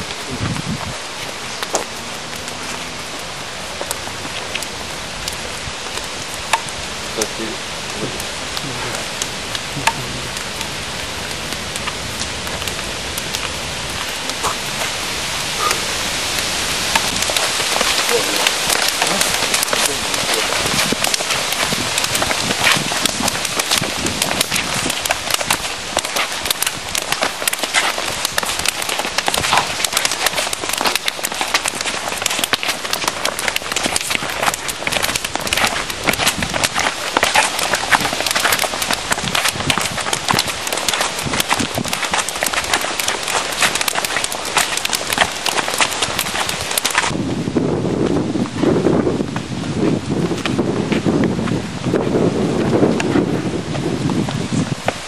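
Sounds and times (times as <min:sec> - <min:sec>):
steady hiss: 0:00.0 - 0:47.1.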